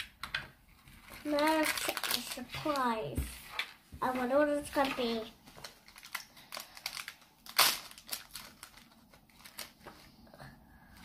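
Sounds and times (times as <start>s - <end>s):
plastic foil packet crinkling: 0.8s - 10.0s.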